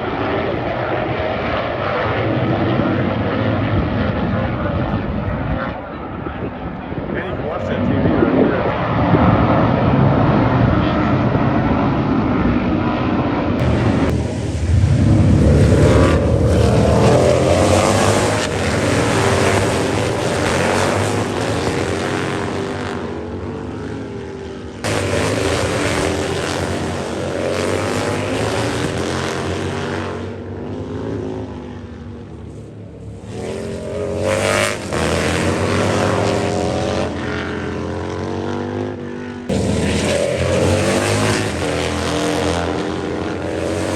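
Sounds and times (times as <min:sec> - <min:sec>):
racing motorcycles passing: 0:07.2 - 0:43.9.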